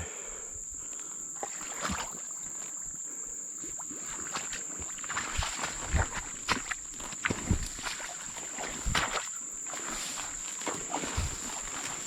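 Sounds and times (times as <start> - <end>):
high-pitched insect trill: 0.1 - 12.0
footsteps splashing through mud: 1.4 - 2.8, 3.7 - 12.0.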